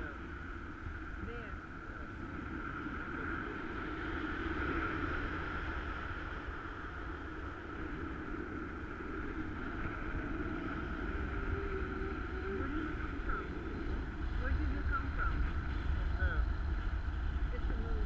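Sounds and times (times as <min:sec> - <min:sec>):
wind buffeting camera: 0:00.0 - 0:18.0.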